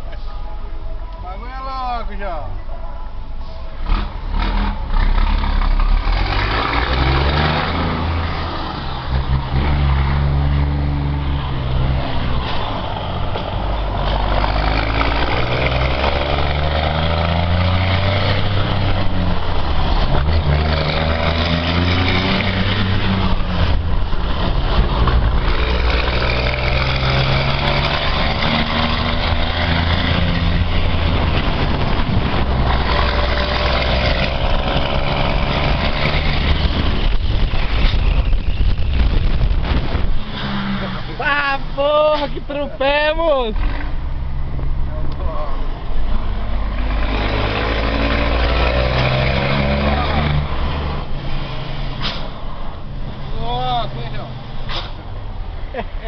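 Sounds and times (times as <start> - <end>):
truck diesel engine accelerating: 3.4 - 56.0.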